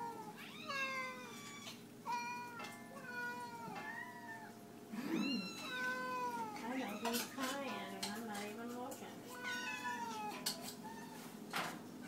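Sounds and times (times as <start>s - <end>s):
cats meowing: 0.0s - 8.0s, 9.2s - 11.5s.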